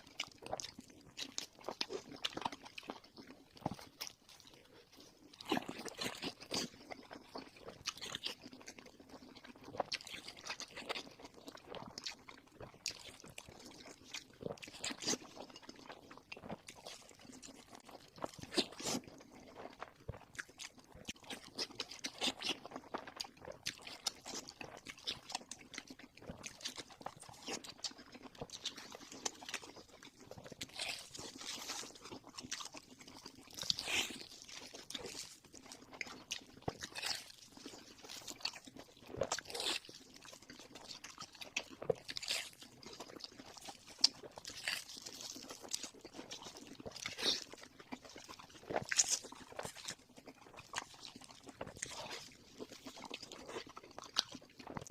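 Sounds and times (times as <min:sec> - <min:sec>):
crunchy bites and chewing: 0:00.0 - 0:54.9.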